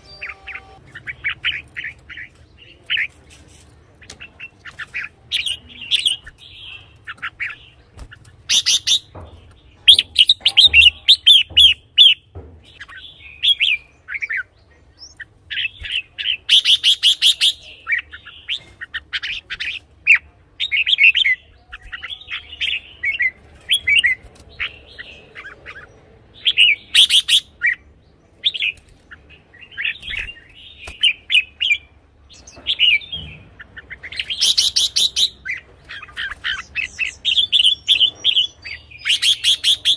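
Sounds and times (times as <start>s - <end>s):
bulbul singing: 0.0s - 3.2s, 4.0s - 39.9s.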